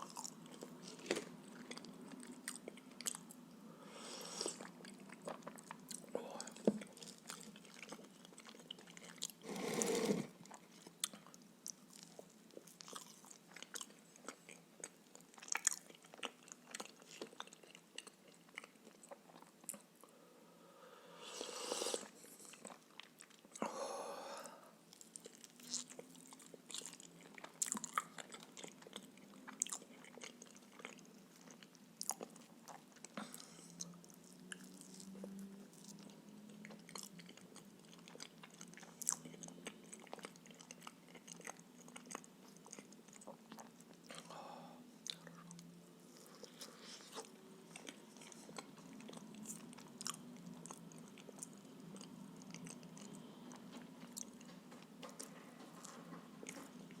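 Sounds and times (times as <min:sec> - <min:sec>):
close chewing and biting: 0:00.0 - 0:03.4, 0:04.5 - 0:09.4, 0:10.4 - 0:20.0, 0:22.2 - 0:23.6, 0:24.9 - 0:44.4, 0:45.0 - 0:57.0.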